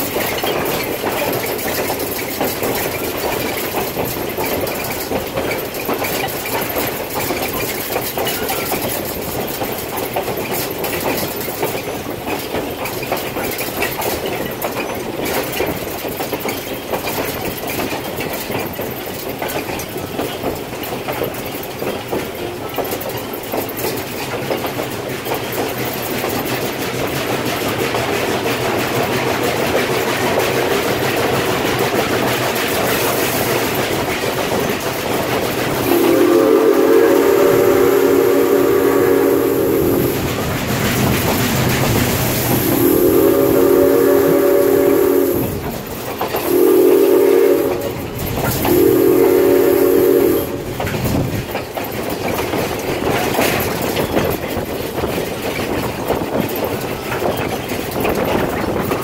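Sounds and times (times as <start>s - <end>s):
train rumbling along track: 0.0s - 59.0s
wheels clicking over rail joints: 0.0s - 59.0s.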